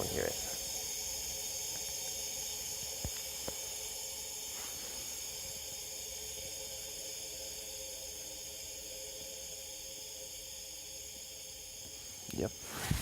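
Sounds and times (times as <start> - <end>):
compressed air hissing: 0.0 - 13.0.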